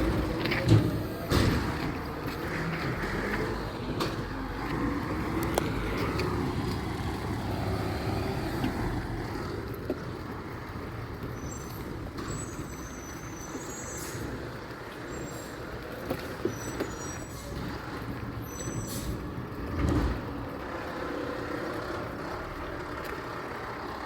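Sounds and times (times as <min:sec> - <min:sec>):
garbage truck engine running: 0:00.0 - 0:24.0.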